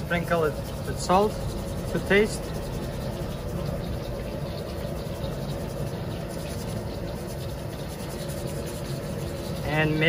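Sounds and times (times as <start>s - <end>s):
oil hissing in a pot: 0.0s - 10.0s.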